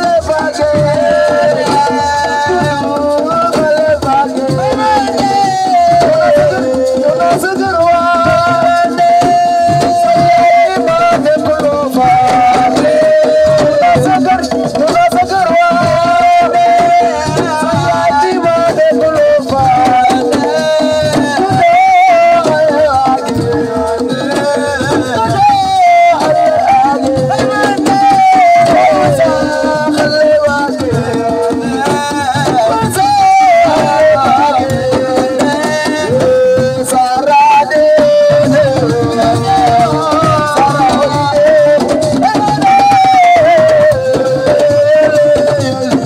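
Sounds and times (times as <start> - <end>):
hand drums: 0.0 - 46.0
person singing: 0.0 - 46.0.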